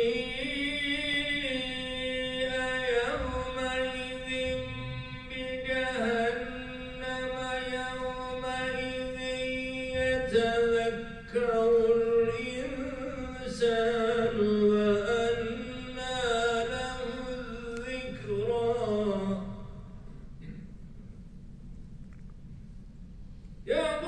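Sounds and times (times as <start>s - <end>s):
man chanting: 0.0s - 20.1s, 23.6s - 24.0s.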